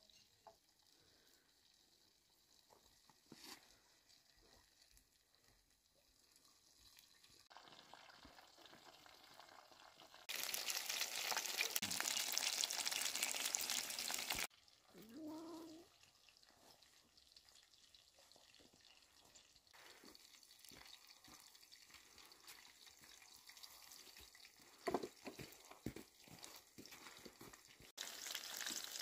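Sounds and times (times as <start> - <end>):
food frying sizzle: 0.0 - 14.9, 15.8 - 25.7, 27.6 - 29.0.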